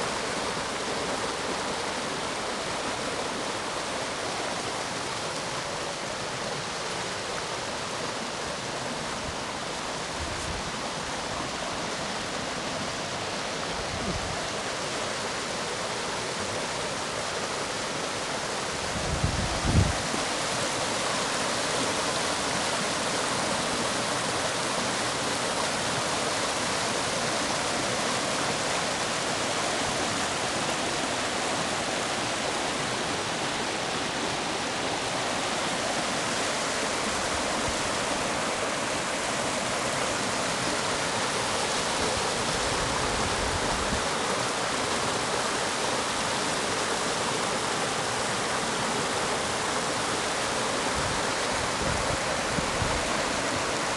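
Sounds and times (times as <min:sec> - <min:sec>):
stream rushing over stones: 0:00.0 - 0:53.9.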